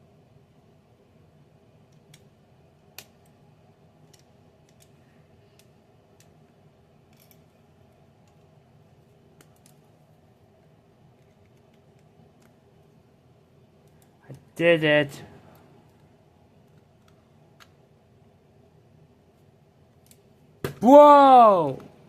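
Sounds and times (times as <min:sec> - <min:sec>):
faint room hum: 0:00.0 - 0:22.0.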